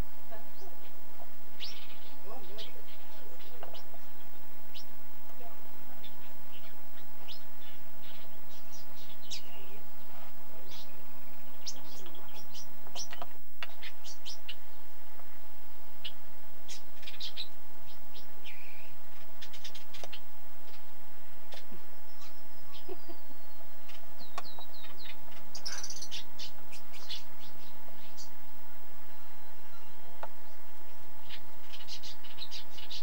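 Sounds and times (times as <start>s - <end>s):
small birds chirping: 0.0s - 33.0s
steady hum: 0.0s - 33.0s.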